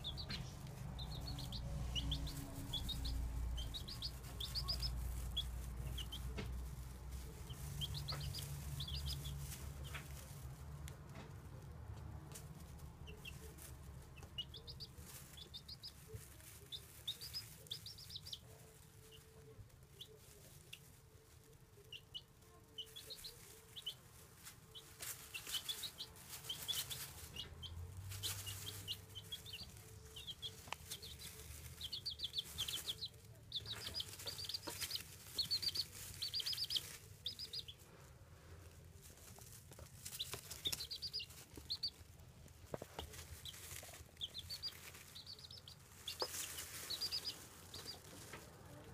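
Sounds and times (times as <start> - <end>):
baby chicks peeping: 0.0 - 48.9.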